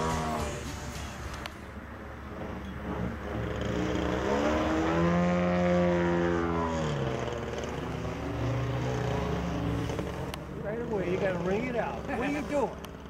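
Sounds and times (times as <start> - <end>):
model plane engine running: 2.2 - 13.0.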